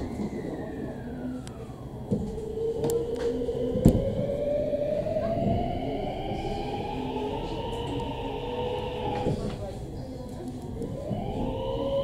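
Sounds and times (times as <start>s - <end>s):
train motors whining: 0.0s - 12.0s
train rumbling on track: 0.0s - 12.0s.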